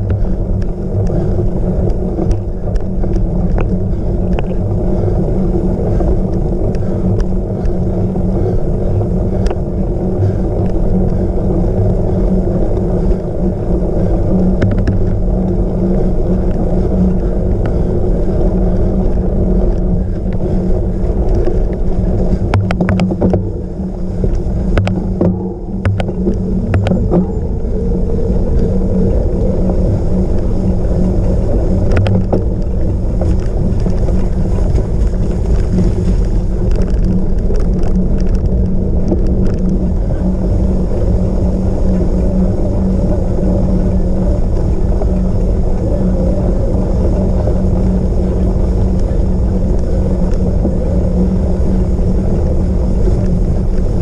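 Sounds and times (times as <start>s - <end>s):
bike rolling over rough ground: 0.0s - 54.0s
wind on microphone: 0.0s - 54.0s.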